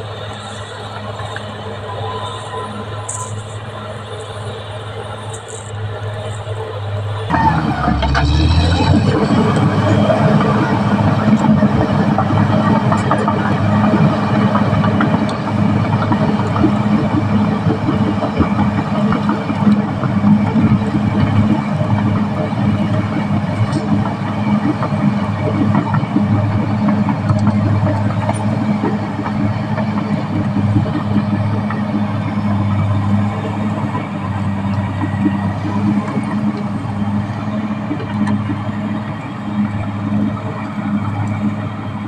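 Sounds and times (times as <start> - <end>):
bulldozer diesel engine running: 0.0 - 42.0.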